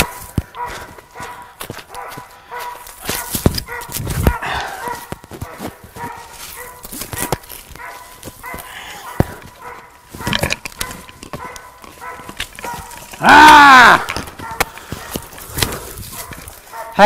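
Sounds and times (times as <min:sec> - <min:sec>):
dog barking: 0:00.0 - 0:13.2, 0:14.4 - 0:15.4, 0:16.0 - 0:17.0.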